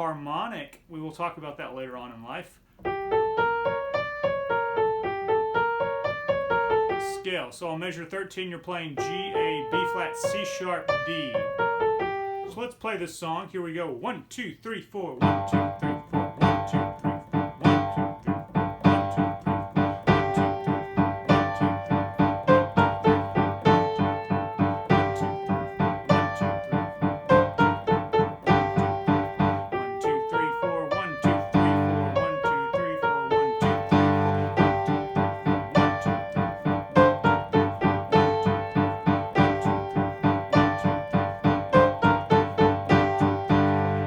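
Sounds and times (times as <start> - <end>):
piano piece: 2.8 - 7.4, 8.9 - 12.6, 15.2 - 44.0.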